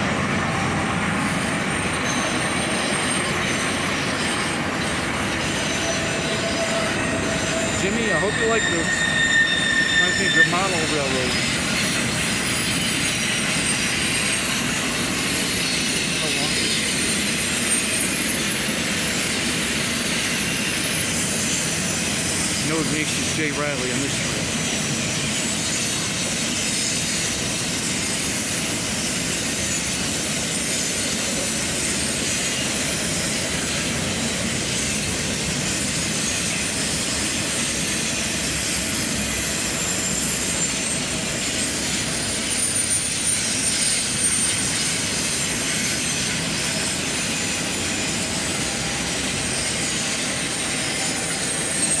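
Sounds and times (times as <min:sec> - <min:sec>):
freight train wheels rumbling: 0:00.0 - 0:52.0
high wheel squeal: 0:00.0 - 0:52.0.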